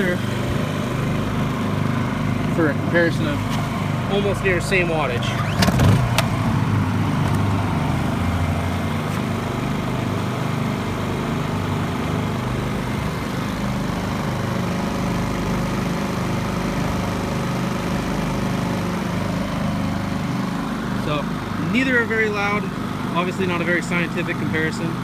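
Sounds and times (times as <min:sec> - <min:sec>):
generator engine humming: 0:00.0 - 0:25.0.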